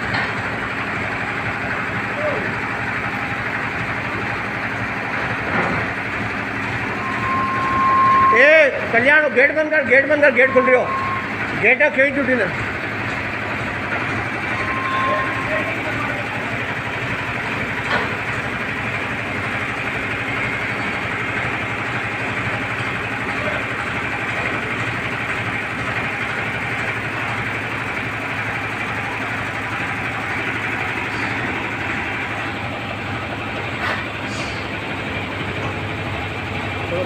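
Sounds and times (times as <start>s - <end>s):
tractor engine running compressor: 0.0s - 37.0s.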